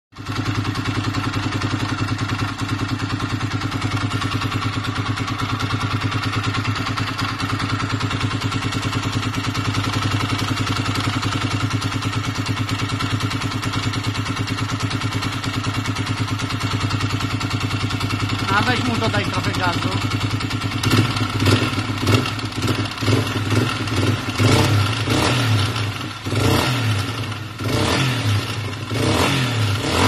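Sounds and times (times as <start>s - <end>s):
motorcycle engine idling: 0.2s - 30.0s.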